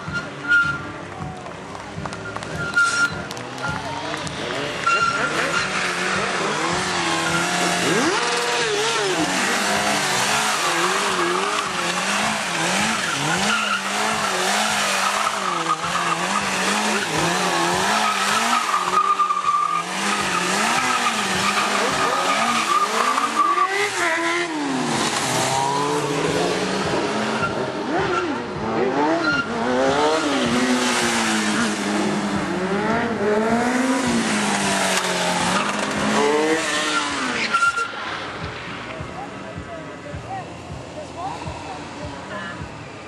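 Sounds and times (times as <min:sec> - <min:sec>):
tyres squealing and skidding: 0:00.0 - 0:01.3, 0:02.0 - 0:38.5
motorcycle engines revving: 0:00.0 - 0:43.0.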